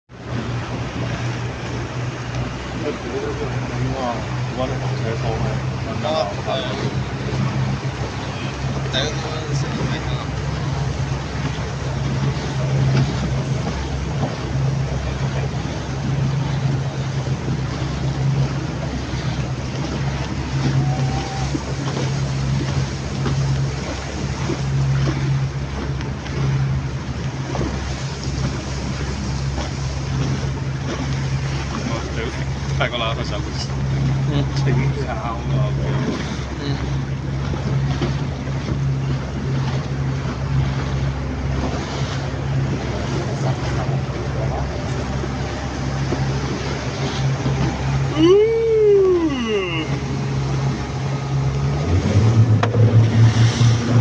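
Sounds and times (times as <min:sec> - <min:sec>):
wind: 0:00.0 - 0:54.0
boat engine droning: 0:00.1 - 0:54.0
water rushing: 0:00.1 - 0:54.0.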